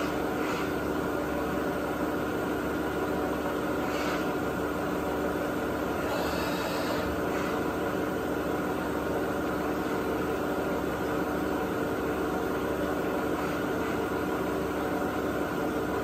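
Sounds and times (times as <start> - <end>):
machine table whirring: 0.0 - 16.0
milling machine hum: 0.0 - 16.0.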